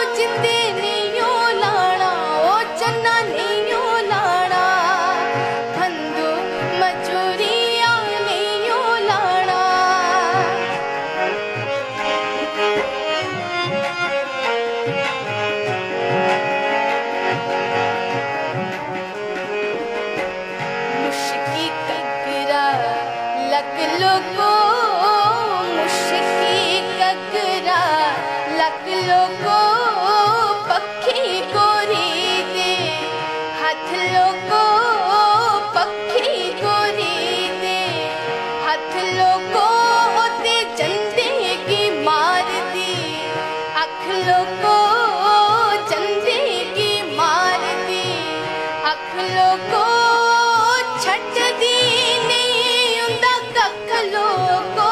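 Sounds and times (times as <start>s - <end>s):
woman singing: 0.0s - 11.4s, 20.9s - 54.9s
harmonium chords: 0.0s - 54.9s
rhythmic backing: 0.0s - 54.9s.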